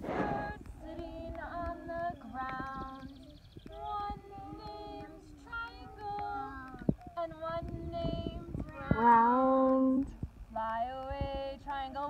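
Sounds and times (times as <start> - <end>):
woman and children singing: 0.0 - 12.0.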